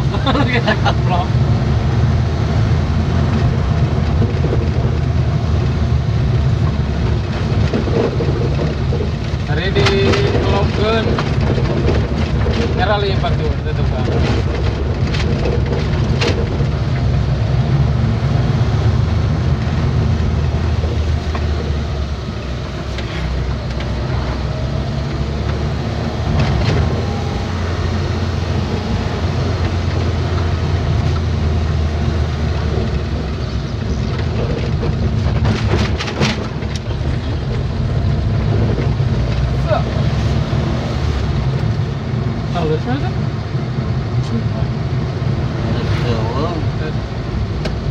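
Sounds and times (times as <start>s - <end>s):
vehicle engine and road noise: 0.0s - 47.9s.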